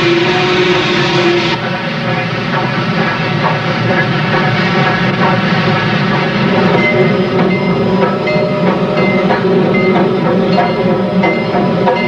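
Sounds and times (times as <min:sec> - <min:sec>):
steam locomotive exhaust: 0:00.0 - 0:12.0
train rolling noise: 0:00.0 - 0:12.0.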